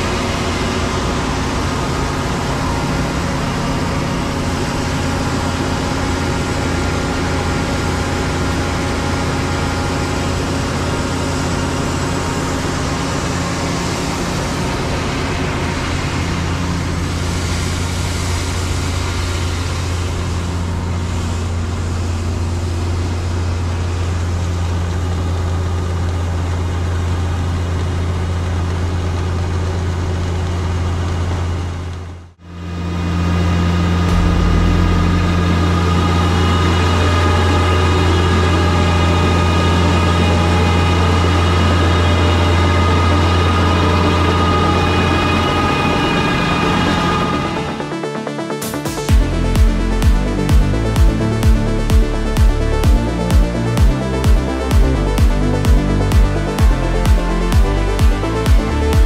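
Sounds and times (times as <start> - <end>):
low engine hum: 0.0 - 59.0.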